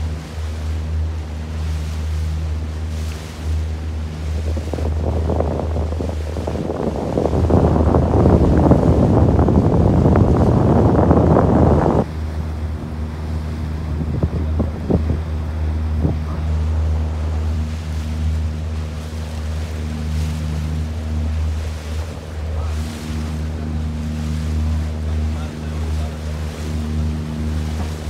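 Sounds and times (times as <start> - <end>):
boat engine droning: 0.0 - 28.0
water and wind noise: 0.0 - 28.0.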